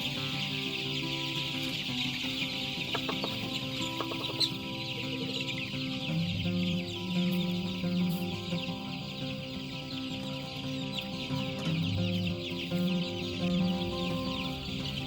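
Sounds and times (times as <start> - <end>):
chickens clucking: 0.0 - 15.0
high chirping chatter: 0.0 - 15.0
soft background music: 0.0 - 15.0.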